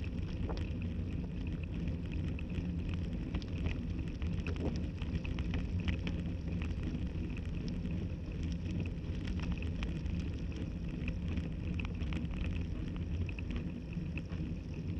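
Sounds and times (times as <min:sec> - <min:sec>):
bicycle ticks and rattles: 0:00.0 - 0:14.9.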